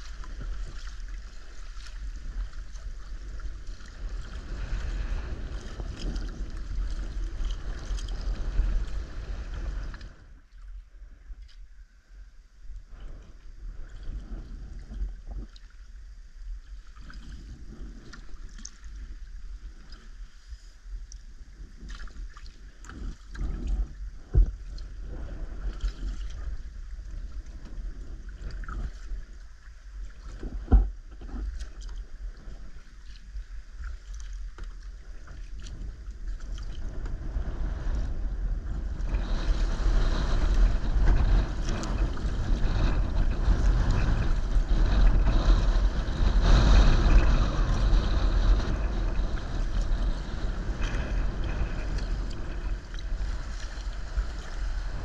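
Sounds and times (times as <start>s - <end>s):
water lapping at kayak hull: 0.0s - 55.0s
wind rumbling on microphone: 0.0s - 55.0s.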